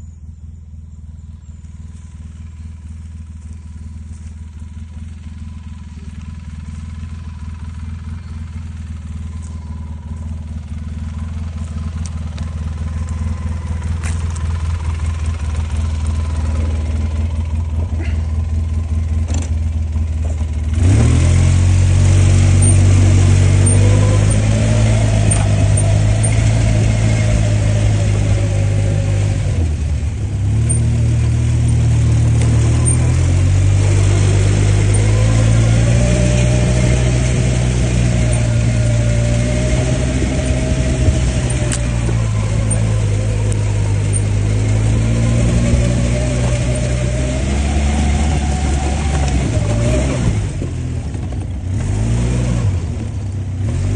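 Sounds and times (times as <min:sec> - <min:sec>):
atv engine revving: 0:01.0 - 0:53.9.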